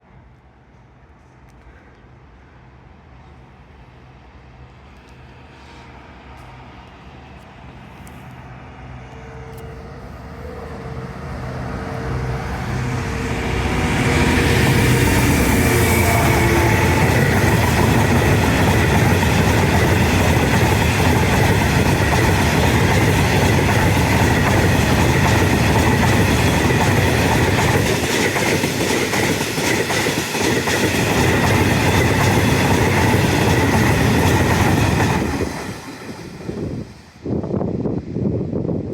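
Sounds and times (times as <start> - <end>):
diesel locomotive approaching: 0.0 - 38.9.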